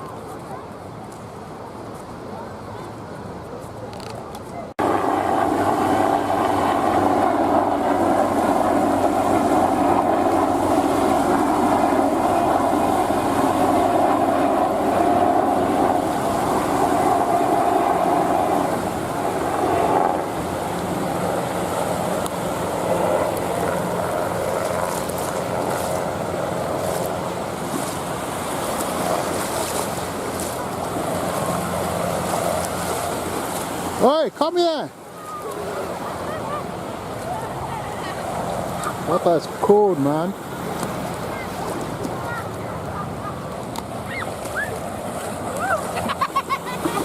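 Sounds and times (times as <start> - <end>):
sea waves washing onto beach: 4.0 - 47.0.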